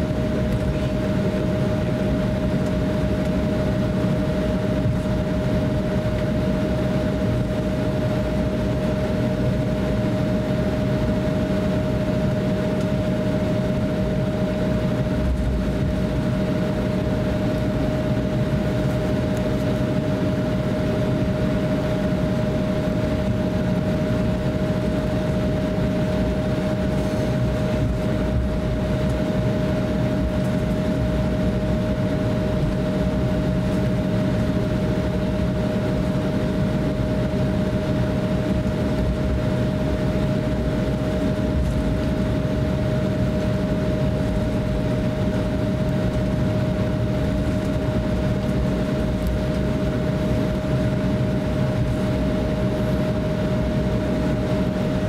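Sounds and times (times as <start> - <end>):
low cabin rumble: 0.0 - 55.0.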